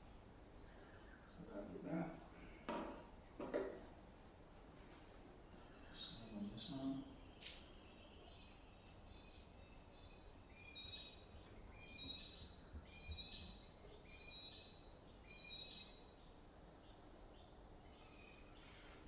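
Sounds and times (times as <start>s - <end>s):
quiet background hiss: 0.0s - 19.0s.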